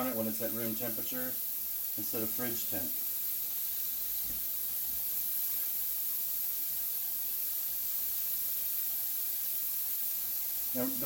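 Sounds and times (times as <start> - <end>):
meat sizzling in frying pan: 0.0 - 11.0.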